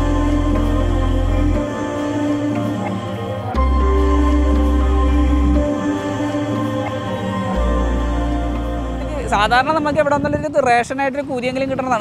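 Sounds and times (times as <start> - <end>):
deep bass note: 0.0 - 10.1
sustained music tones: 0.0 - 10.8.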